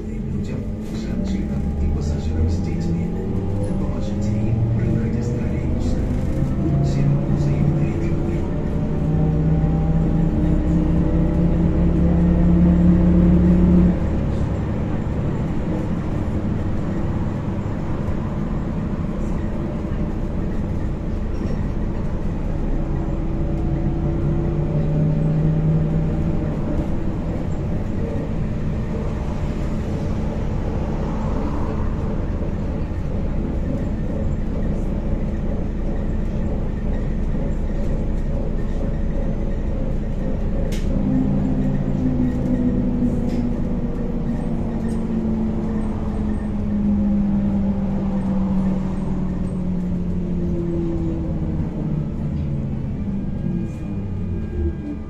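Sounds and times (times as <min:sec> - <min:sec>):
tyres rumbling on road: 0:00.0 - 0:55.0.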